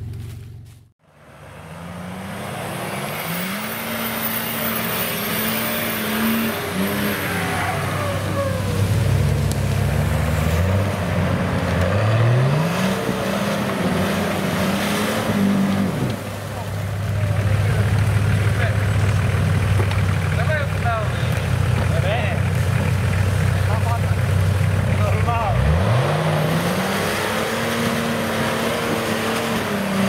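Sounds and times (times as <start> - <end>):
suv engine revving: 0.0 - 30.0.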